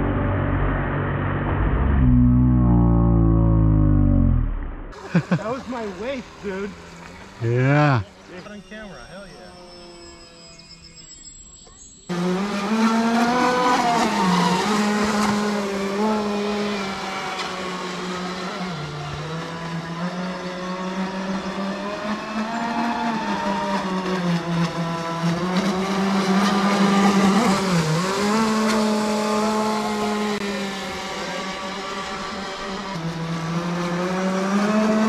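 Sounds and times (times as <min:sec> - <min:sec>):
electric propeller motors humming: 0:01.8 - 0:35.0.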